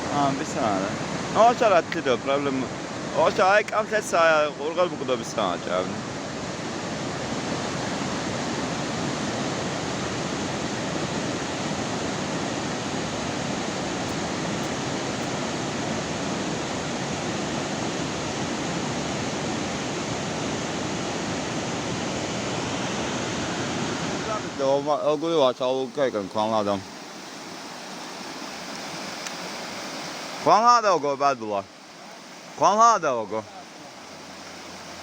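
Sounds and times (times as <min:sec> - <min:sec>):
fast-flowing water rushing: 0:00.0 - 0:35.0.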